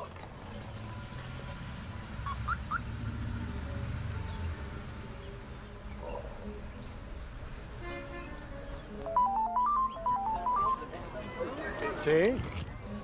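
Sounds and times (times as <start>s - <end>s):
rumble of passing vehicles: 0.0s - 13.0s.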